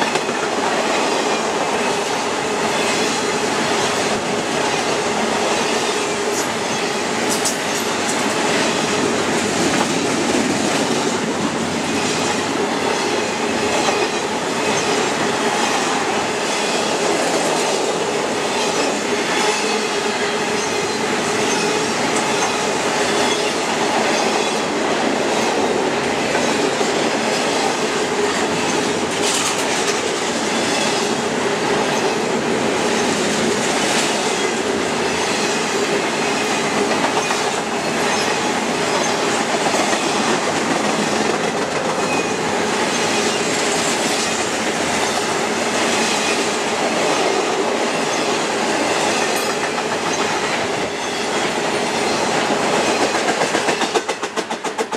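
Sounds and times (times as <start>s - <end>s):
train wheels rumbling and clattering: 0.0s - 54.9s.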